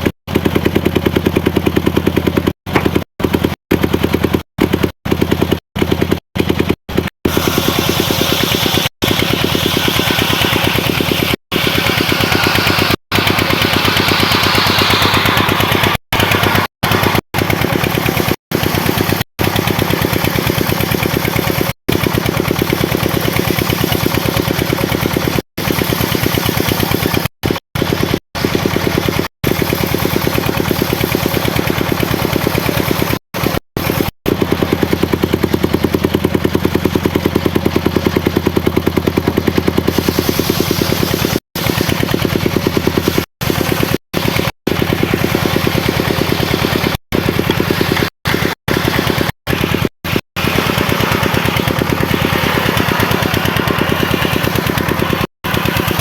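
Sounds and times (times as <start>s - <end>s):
sawmill engine chugging: 0.0s - 56.0s.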